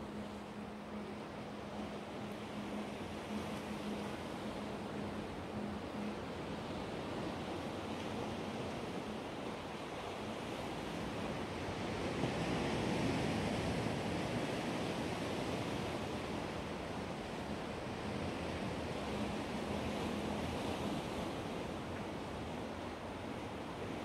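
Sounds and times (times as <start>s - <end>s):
surf washing: 0.0s - 24.0s.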